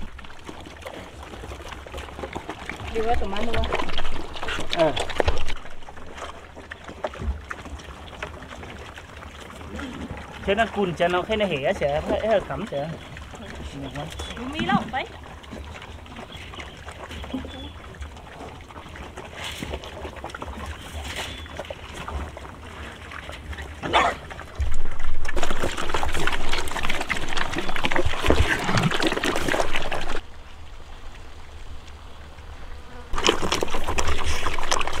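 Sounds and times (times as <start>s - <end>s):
pigs chewing and slurping feed: 0.0s - 35.0s.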